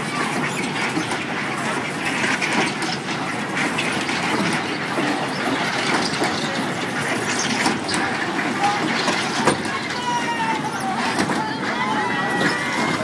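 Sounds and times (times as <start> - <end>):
ride cars rumbling and clattering: 0.0 - 13.0.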